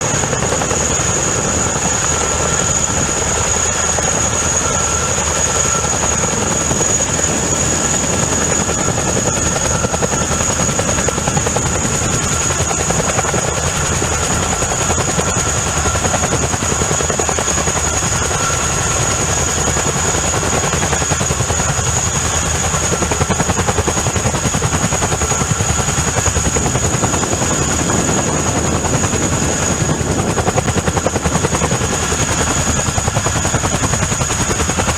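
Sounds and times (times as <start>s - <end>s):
helicopter rotor beat: 0.0s - 34.9s.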